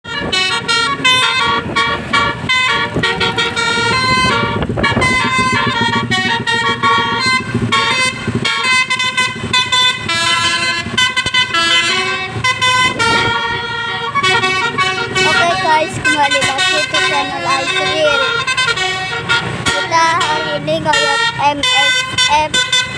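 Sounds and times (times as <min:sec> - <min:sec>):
musical air horn playing a tune: 0:00.0 - 0:22.9.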